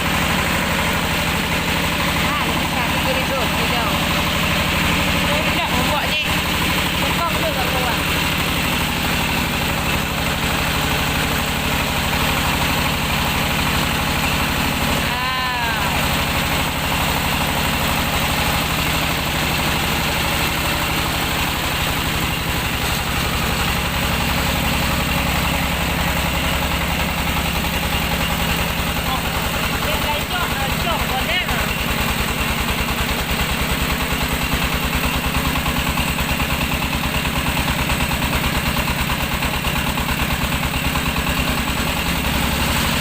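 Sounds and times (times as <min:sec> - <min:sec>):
milling machine engine droning: 0:00.0 - 0:43.0.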